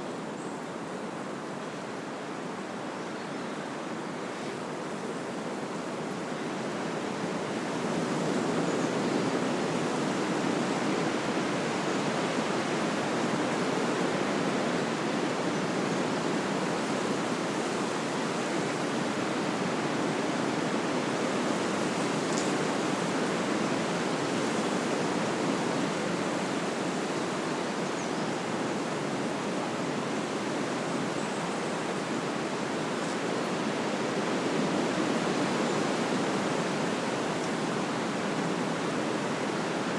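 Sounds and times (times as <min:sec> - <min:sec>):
wind rustling leaves and branches: 0:00.0 - 0:39.9.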